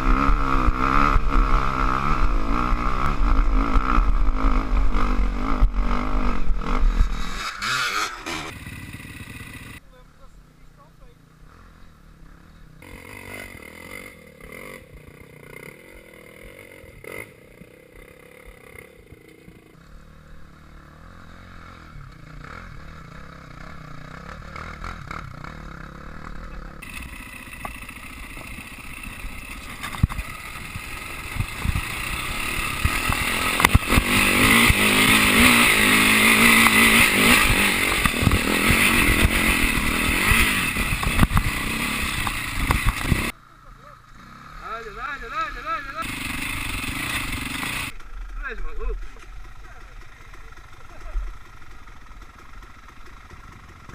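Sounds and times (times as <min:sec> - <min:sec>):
dirt bike engine running: 0:00.0 - 0:53.9.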